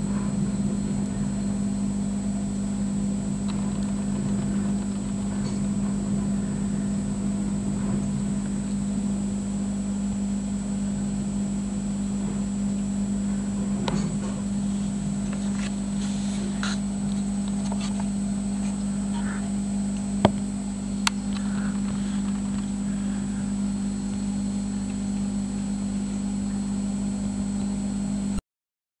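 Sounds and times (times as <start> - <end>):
aquarium equipment humming: 0.0 - 28.4.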